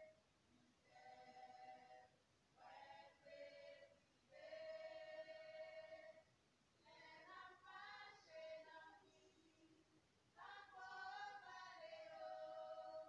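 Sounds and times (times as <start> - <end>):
women singing a hymn: 0.8 - 13.0.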